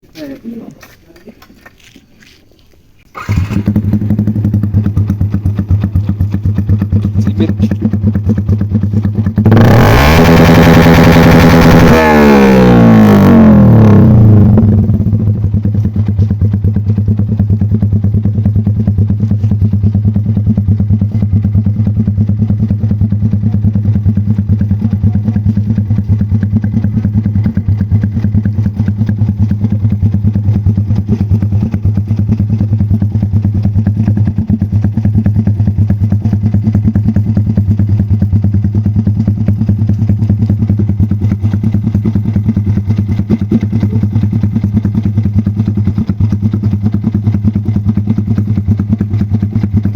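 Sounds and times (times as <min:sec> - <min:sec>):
motorcycle engine idling and revving: 0:03.1 - 0:49.9.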